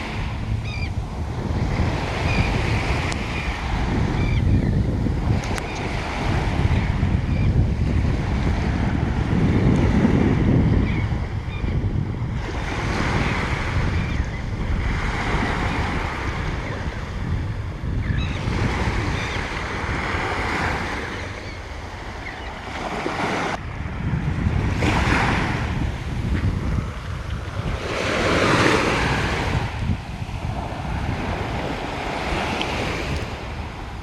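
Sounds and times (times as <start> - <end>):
surf washing up the beach: 0.0 - 34.0
wind rumble on the microphone: 0.0 - 34.0.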